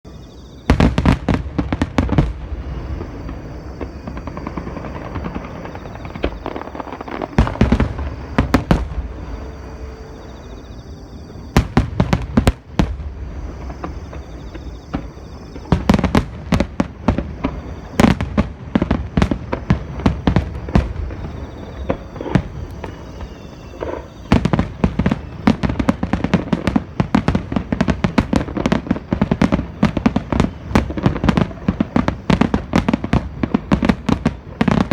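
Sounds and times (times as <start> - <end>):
fireworks crackling: 0.5 - 34.9
aerial fireworks bursting: 0.6 - 34.9.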